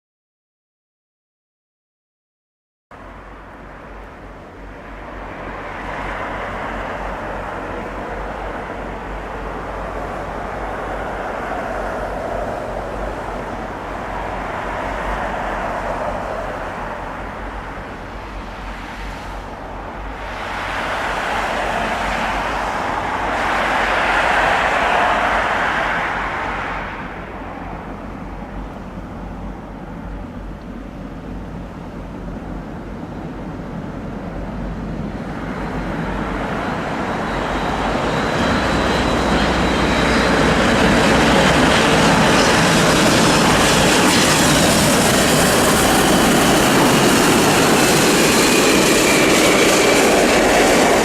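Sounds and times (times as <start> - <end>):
jet engine roar: 3.0 - 51.0.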